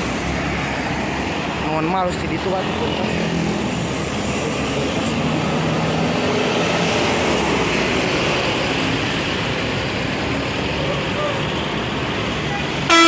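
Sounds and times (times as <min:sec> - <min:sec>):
bus engine running: 0:00.0 - 0:13.0
road and tyre noise: 0:00.0 - 0:13.0.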